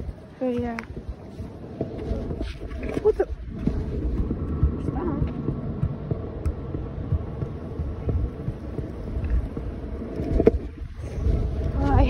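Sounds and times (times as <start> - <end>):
scooter rolling over rough pavement: 0.0 - 12.0
wind buffeting microphone: 0.0 - 12.0.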